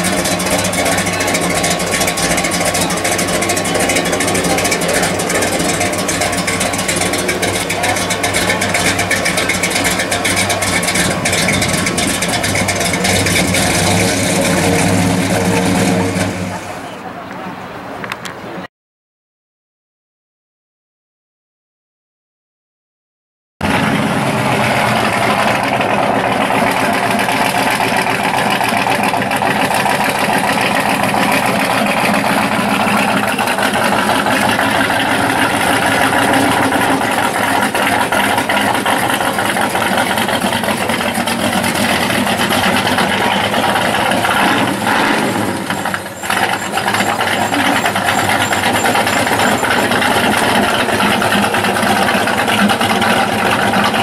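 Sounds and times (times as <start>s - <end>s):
car engine running loud: 0.0s - 18.2s, 23.6s - 54.0s.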